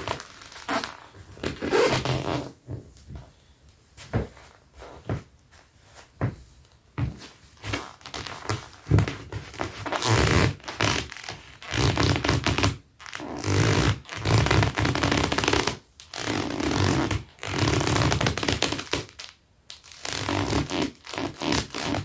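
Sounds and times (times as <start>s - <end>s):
leather boots squeaking and scraping: 0.0s - 19.0s, 19.9s - 22.0s.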